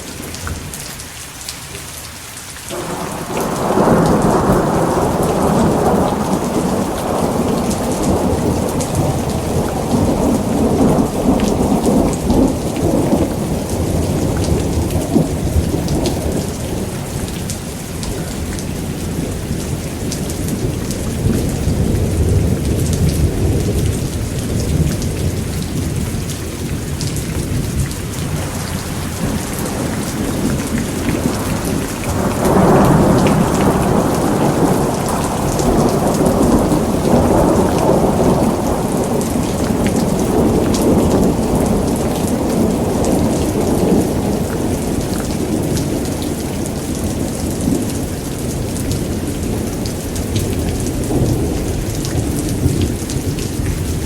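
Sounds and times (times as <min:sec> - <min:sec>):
heavy rain falling: 0:00.0 - 0:54.0
rolling thunder: 0:02.7 - 0:54.0.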